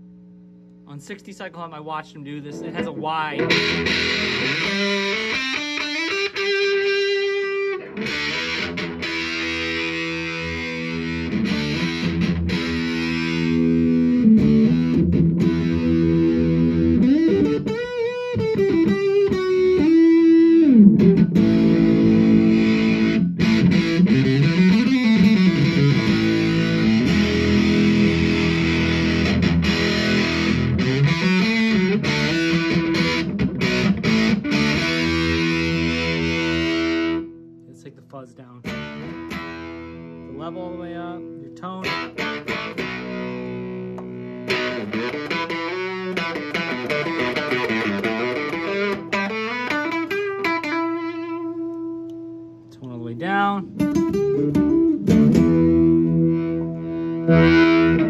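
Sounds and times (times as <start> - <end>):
fuzzy distorted electric guitar: 0.0 - 58.0.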